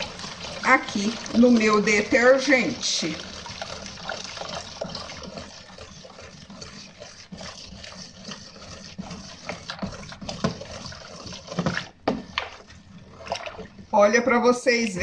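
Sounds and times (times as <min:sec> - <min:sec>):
liquid pouring and sloshing: 0:00.0 - 0:14.3.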